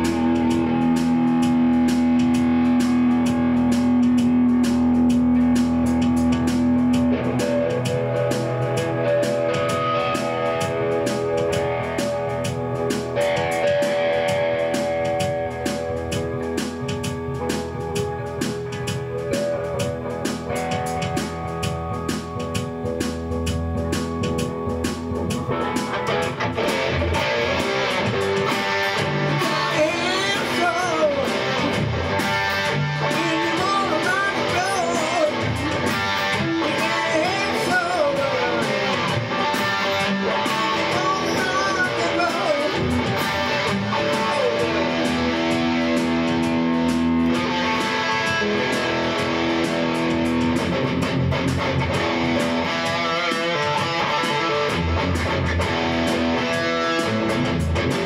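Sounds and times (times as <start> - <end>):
electric guitar lead with bends: 0.0 - 58.0
rock music: 0.0 - 58.0.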